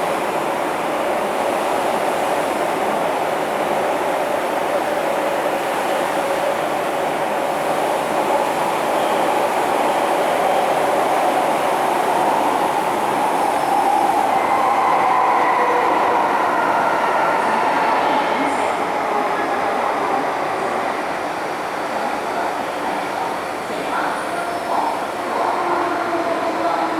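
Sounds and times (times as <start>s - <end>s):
metro train wheels rumbling: 0.0s - 26.9s.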